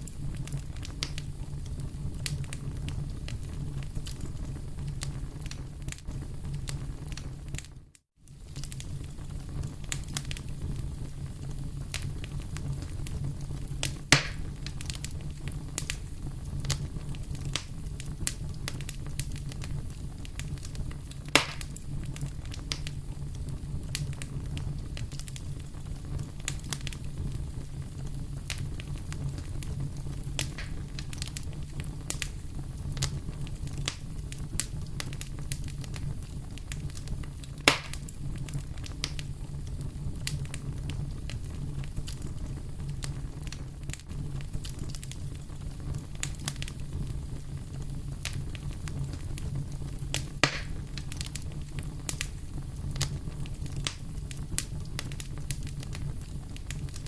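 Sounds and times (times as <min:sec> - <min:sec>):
loud fire pops: 0:00.0 - 0:57.0
low rumble of flame: 0:00.0 - 0:57.0
wood fire crackling: 0:00.0 - 0:57.0.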